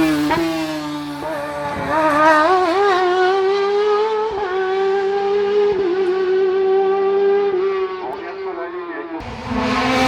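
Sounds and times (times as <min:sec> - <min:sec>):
race car engine at high revs: 0:00.0 - 0:10.0.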